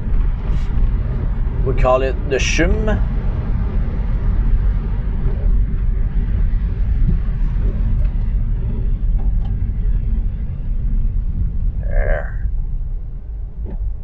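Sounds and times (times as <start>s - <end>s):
car engine rumble: 0.0s - 14.0s
tyre noise on snowy road: 0.0s - 14.0s.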